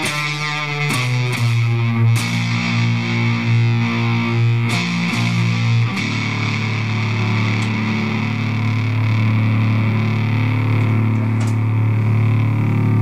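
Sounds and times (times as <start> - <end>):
fuzzed electric guitar: 0.0 - 13.0.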